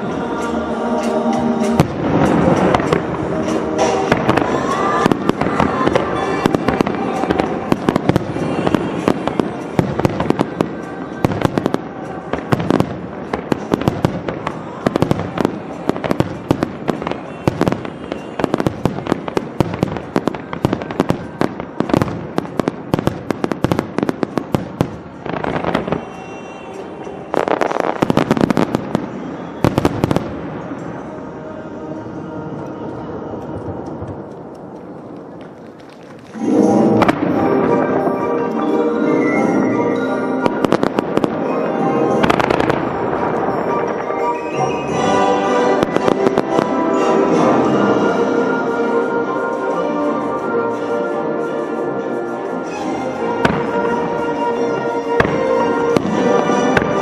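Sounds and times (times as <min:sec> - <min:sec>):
fireworks bangs: 0:00.0 - 0:31.3, 0:33.5 - 0:49.0, 0:52.6 - 0:57.0
fireworks fountain hiss: 0:00.0 - 0:31.3, 0:39.5 - 0:57.0
music: 0:00.0 - 0:57.0.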